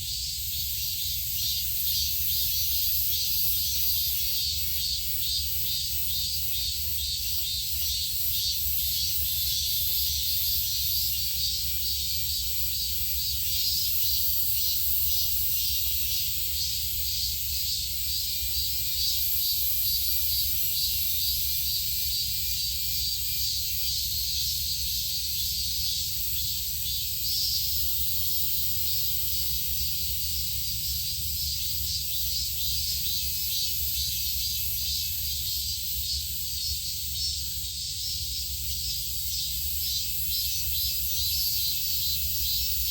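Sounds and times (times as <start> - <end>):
insects buzzing: 0.0 - 42.9.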